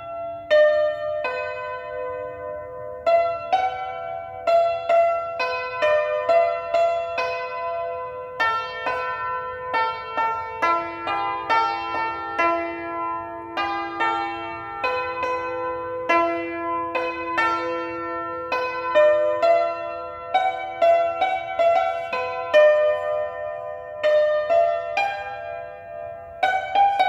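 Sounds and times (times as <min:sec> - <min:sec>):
hammered dulcimer melody: 0:00.0 - 0:27.0.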